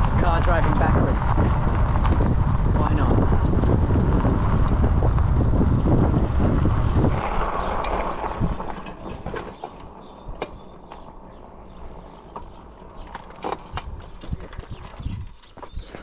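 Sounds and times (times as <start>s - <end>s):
bicycle tyres rumbling on paving: 0.0s - 16.0s.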